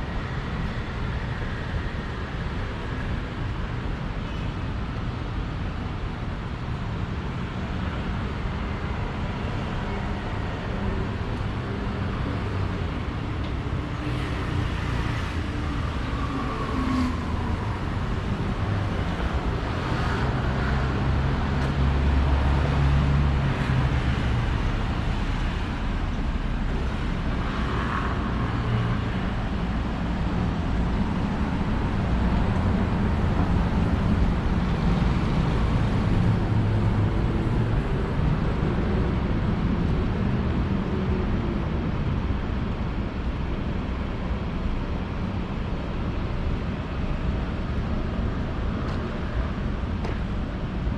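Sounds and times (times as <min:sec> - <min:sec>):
traffic rumble: 0:00.0 - 0:50.9.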